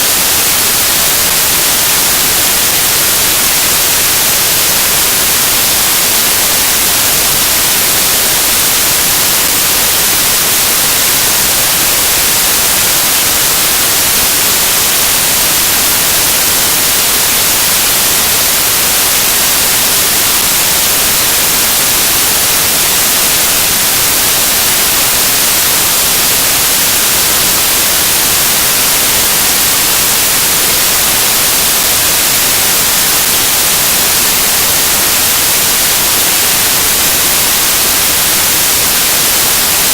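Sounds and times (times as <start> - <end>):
static white noise hiss: 0.0 - 39.9.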